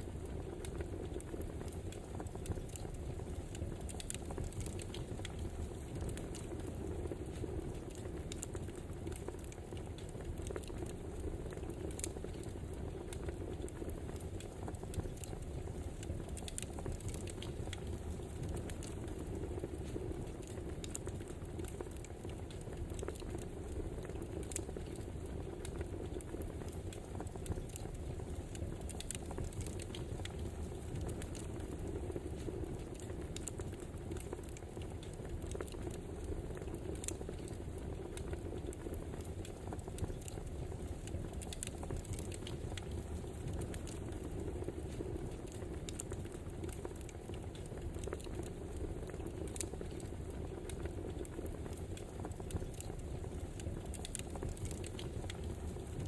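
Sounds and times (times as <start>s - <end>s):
fire crackles and pops: 0.0s - 56.0s
wood fire burning: 0.0s - 56.0s.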